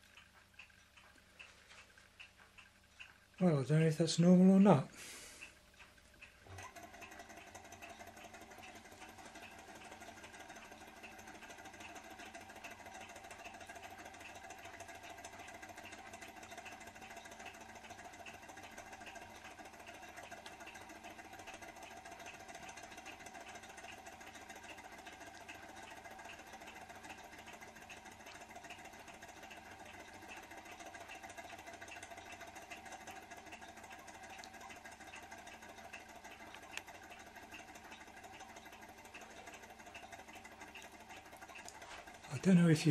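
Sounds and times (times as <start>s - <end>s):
model engine running: 6.4s - 42.9s.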